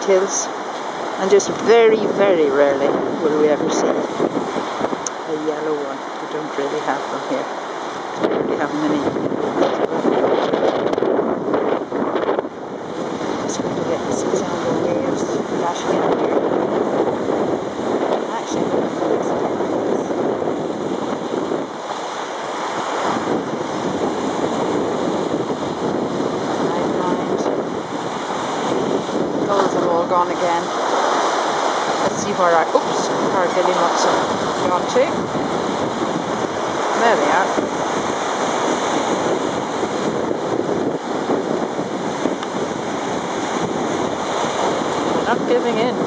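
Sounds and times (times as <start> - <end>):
surf breaking on rocks: 0.0 - 46.0
wind buffeting microphone: 0.0 - 46.0.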